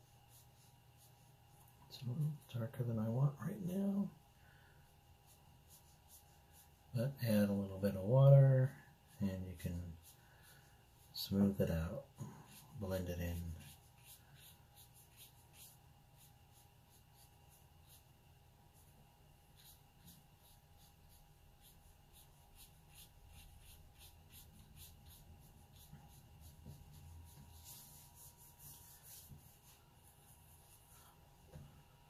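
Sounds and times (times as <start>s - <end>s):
brush strokes on paper: 0.0s - 32.0s.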